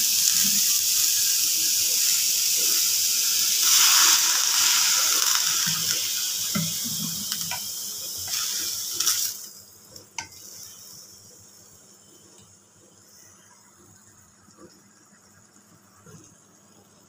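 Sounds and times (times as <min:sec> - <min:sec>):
beetroot sizzling in a pan: 0:00.0 - 0:13.7
faint hiss: 0:00.0 - 0:17.0.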